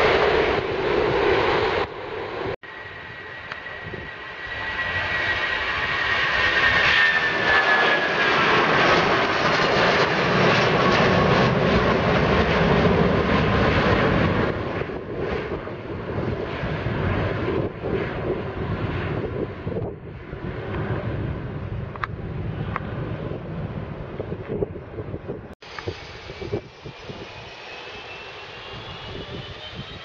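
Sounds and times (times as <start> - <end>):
jet engines whining at takeoff: 0.0 - 30.0.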